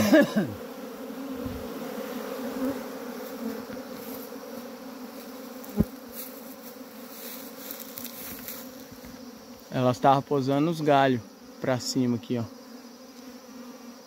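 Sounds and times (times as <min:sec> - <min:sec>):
bee swarm buzzing: 0:00.0 - 0:14.0.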